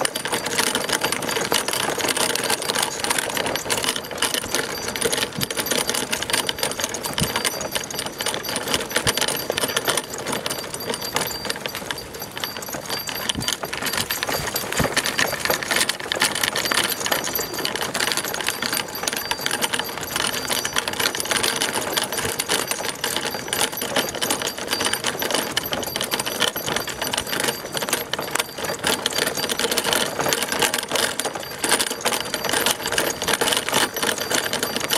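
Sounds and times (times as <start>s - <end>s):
cart rattling on dirt trail: 0.0s - 34.9s.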